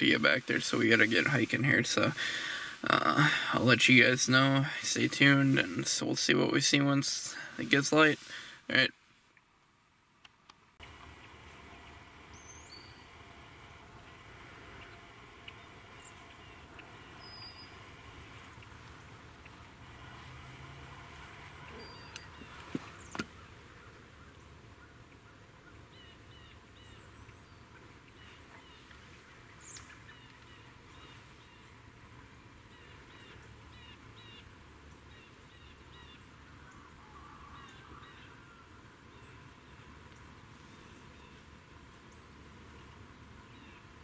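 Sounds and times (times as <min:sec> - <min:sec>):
birds chirping faintly: 0:00.0 - 0:44.0
low background hiss: 0:00.0 - 0:44.0.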